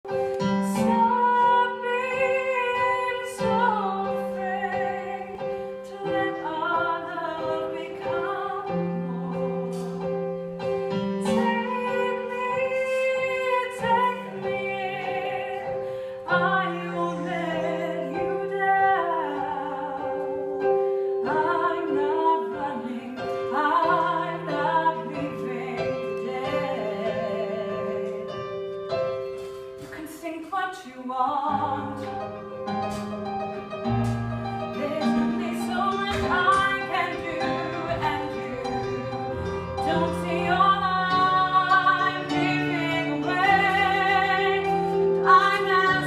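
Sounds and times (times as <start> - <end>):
piano accompaniment: 0.0 - 46.0
woman singing: 0.4 - 10.4, 11.2 - 28.5, 29.8 - 32.6, 34.7 - 46.0.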